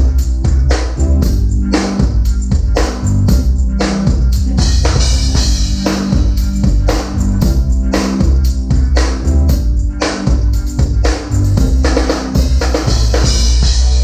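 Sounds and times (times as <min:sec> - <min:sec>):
band playing: 0:00.0 - 0:14.0
low bass notes: 0:00.0 - 0:14.0.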